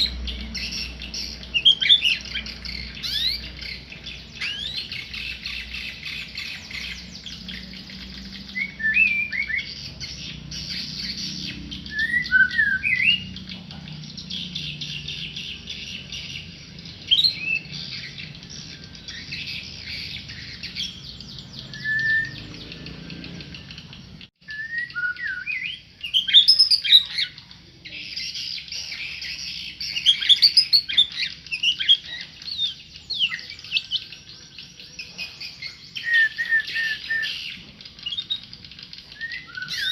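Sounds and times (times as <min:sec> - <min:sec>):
songbird whistling: 0:00.0 - 0:27.5, 0:28.1 - 0:39.9
high twittering: 0:00.0 - 0:39.9.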